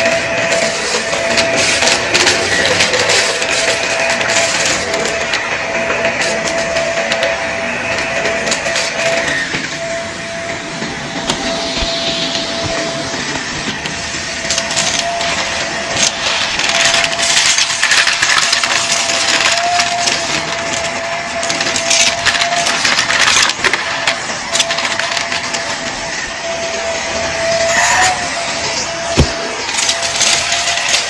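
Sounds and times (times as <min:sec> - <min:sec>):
debris crackling in vacuum: 0:00.0 - 0:31.0
vacuum cleaner whining: 0:00.0 - 0:31.0.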